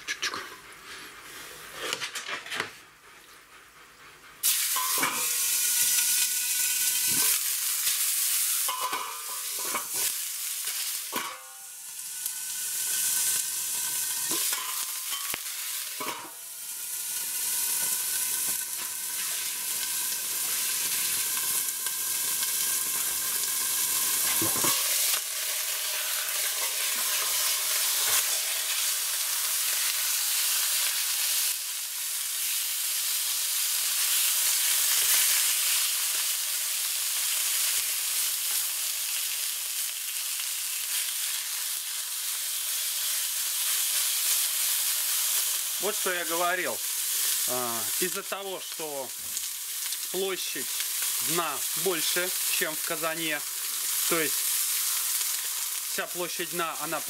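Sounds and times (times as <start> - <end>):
meat sizzling in hot fat: 4.4 - 57.0.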